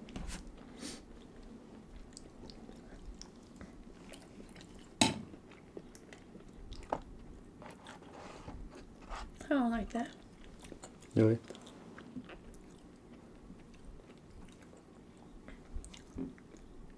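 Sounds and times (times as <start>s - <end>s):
chewing and biting food: 1.2s - 8.1s, 10.1s - 16.9s.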